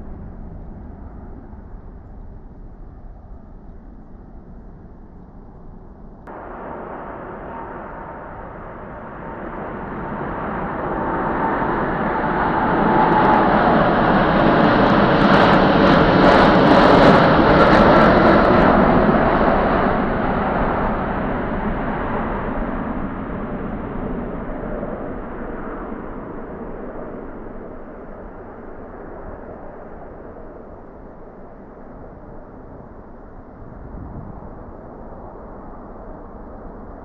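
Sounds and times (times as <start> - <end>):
jet engines roaring at take-off: 5.4 - 37.0.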